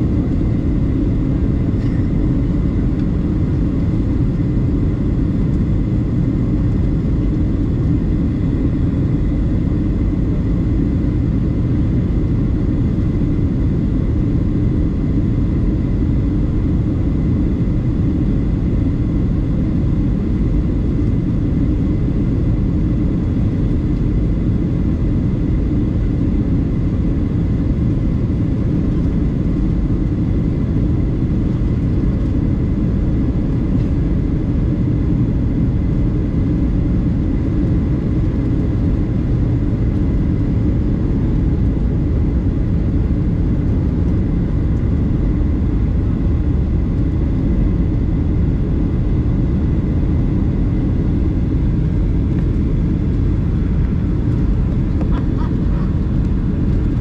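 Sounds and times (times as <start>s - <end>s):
jet engine drone and airflow: 0.0s - 57.0s.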